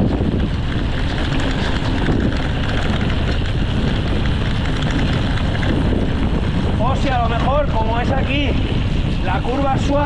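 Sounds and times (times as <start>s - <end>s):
tyres rolling on dirt: 0.0s - 10.0s
wind buffeting microphone: 0.0s - 10.0s.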